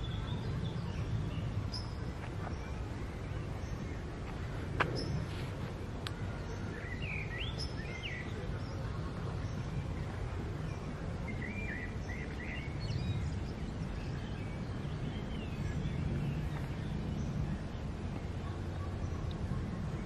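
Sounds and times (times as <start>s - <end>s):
low outdoor rumble: 0.0s - 20.0s
small birds chirping: 0.0s - 20.0s.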